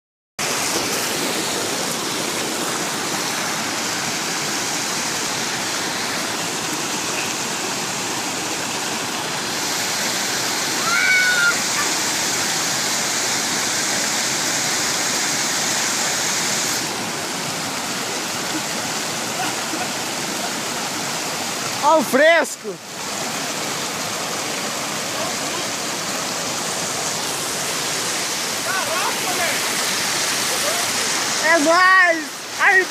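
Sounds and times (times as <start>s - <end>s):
small waterfall pouring over rocks: 0.4s - 32.9s.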